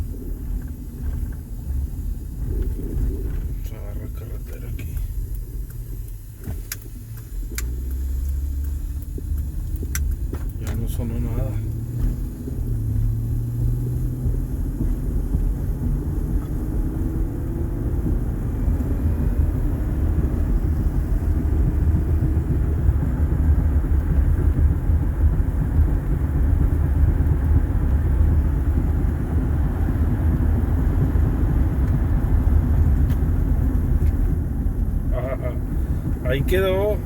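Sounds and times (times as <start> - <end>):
car engine running: 0.0 - 37.0
road and tyre noise: 0.0 - 37.0.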